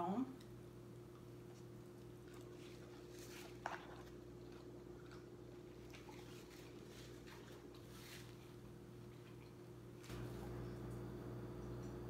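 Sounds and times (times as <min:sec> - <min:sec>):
low steady hum: 0:00.0 - 0:12.0
chewing salad: 0:00.4 - 0:10.1.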